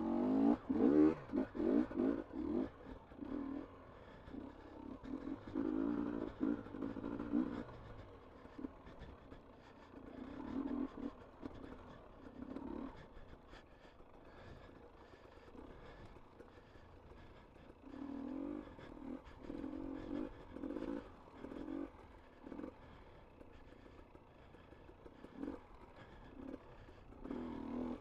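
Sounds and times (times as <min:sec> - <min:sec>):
motorcycle engine running low: 0:00.0 - 0:28.0
heavy breathing gasps: 0:02.6 - 0:28.0.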